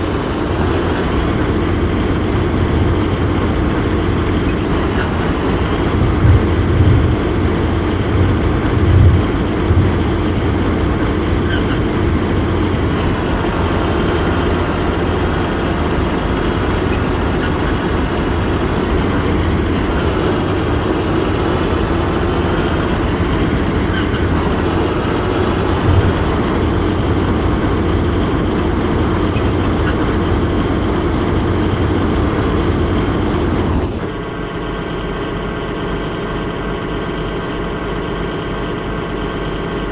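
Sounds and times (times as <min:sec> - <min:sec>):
excavator running under load: 0:00.0 - 0:39.9.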